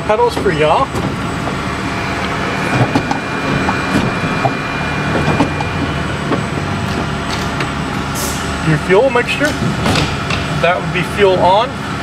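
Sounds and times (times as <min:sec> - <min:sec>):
mechanical hum and rumble: 0:00.0 - 0:12.0.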